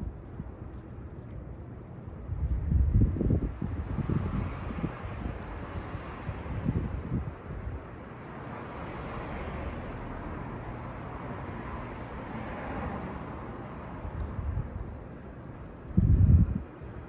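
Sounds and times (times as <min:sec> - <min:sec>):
outdoor background hum and hiss: 0:00.0 - 0:17.0.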